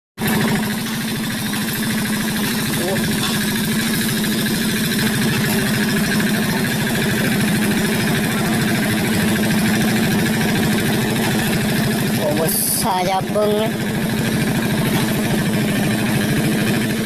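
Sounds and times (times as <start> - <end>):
diesel engine running: 0.2 - 17.0.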